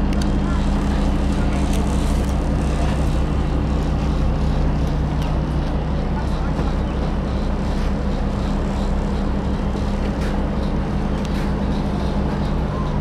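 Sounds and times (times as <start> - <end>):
ferry engine droning: 0.0 - 13.0.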